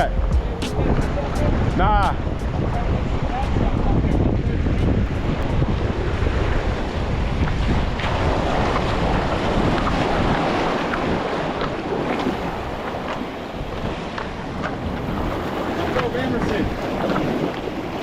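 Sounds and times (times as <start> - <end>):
waves against rocks: 0.0 - 18.0
wind buffeting the microphone: 0.0 - 18.0.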